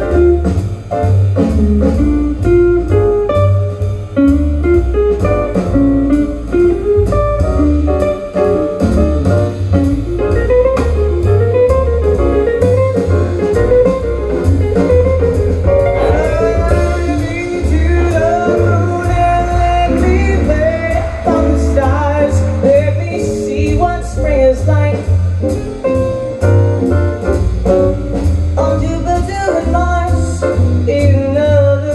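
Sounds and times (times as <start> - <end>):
jazz record over loudspeakers: 0.0 - 31.9.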